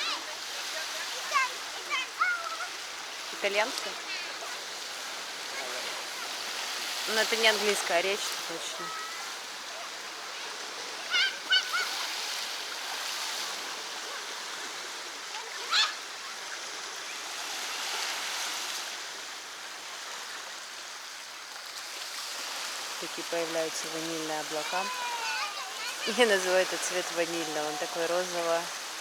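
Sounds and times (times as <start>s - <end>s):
water rushing at shore: 0.0s - 29.0s.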